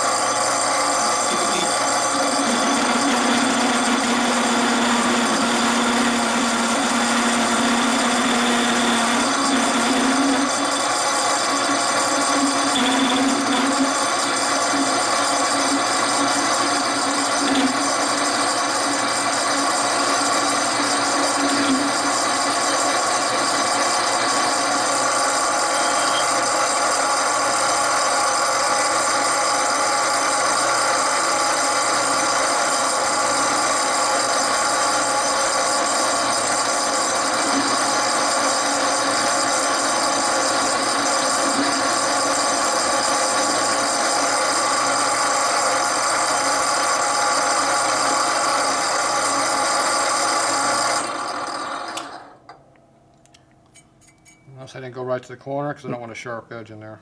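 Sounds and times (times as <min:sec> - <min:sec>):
bandsaw cutting: 0:00.9 - 0:27.8, 0:29.1 - 0:48.9.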